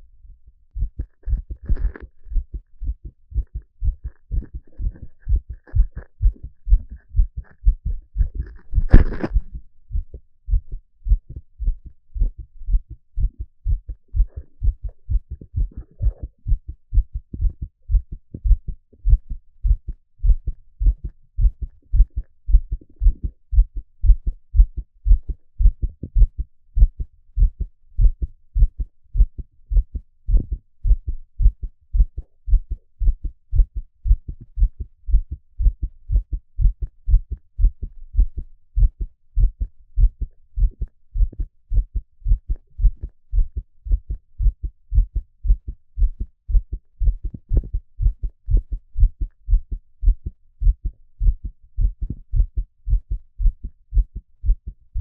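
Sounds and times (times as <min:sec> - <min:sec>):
heartbeat thuds: 0:00.2 - 0:55.0.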